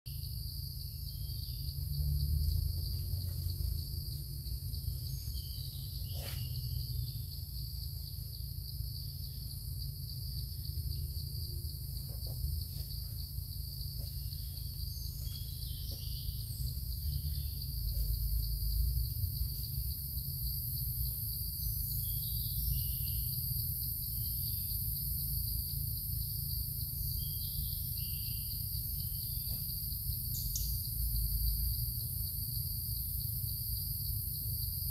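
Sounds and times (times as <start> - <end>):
high-pitched drone of insects: 0.1 - 34.9.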